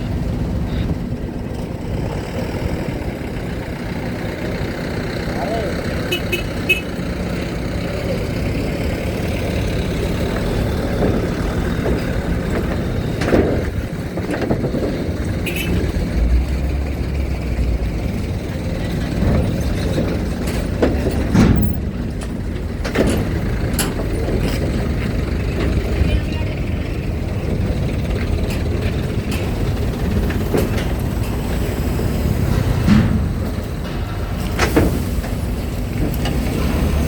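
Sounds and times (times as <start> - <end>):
truck engines rumbling: 0.0 - 37.0.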